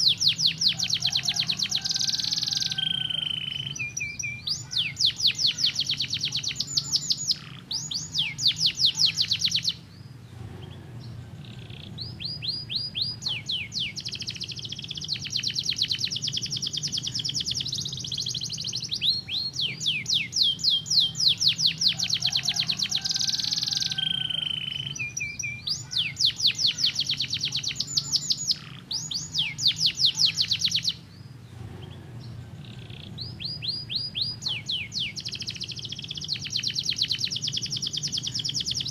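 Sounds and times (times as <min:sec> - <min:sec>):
canary singing trills: 0:00.0 - 0:38.9
faint low hum: 0:00.0 - 0:38.9.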